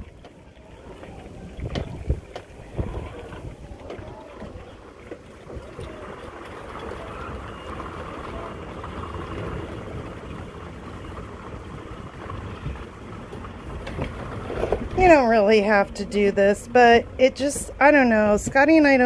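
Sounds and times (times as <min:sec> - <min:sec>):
slide mechanism mechanical drone: 0:00.0 - 0:19.0.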